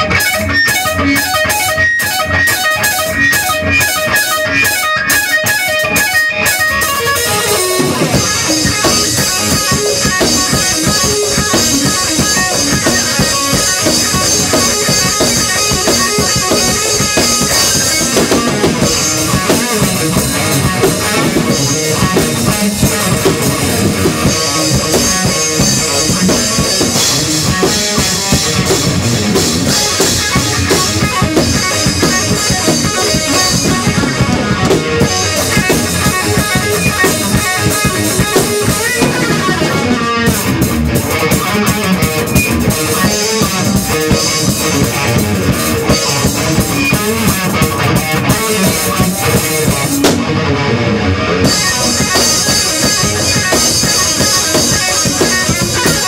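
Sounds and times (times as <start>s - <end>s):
drum kit playing: 0.0s - 56.0s
electric guitar playing: 0.0s - 56.0s.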